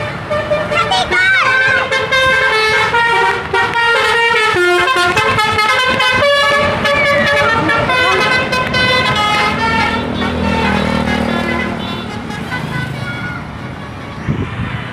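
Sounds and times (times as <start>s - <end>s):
bus horn playing a melodic tune: 0.0s - 14.3s.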